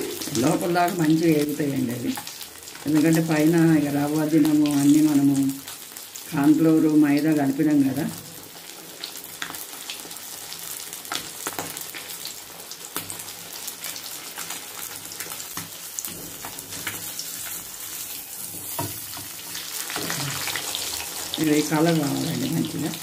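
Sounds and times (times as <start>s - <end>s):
fish frying with crackling pops: 0.0s - 23.0s.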